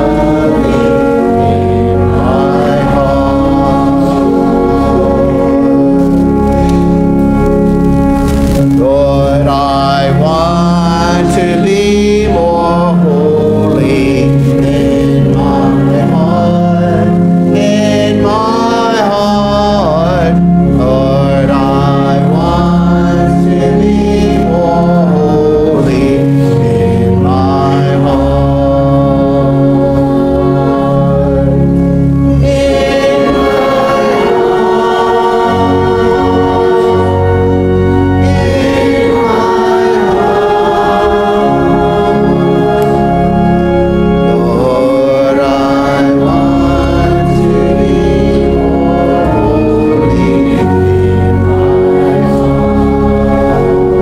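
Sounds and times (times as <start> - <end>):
choir singing a hymn: 0.0 - 54.0
low organ chords: 0.0 - 54.0.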